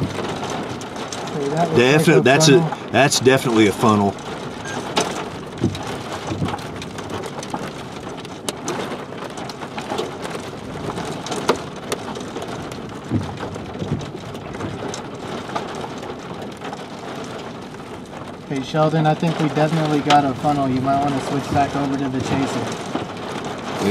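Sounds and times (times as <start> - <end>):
raindrops tapping: 0.0 - 23.9
steady rain: 0.0 - 23.9.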